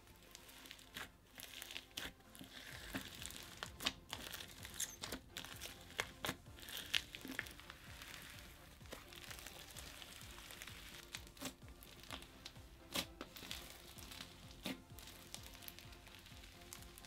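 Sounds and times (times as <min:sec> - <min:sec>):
crunchy slime crackling: 0:00.0 - 0:17.0.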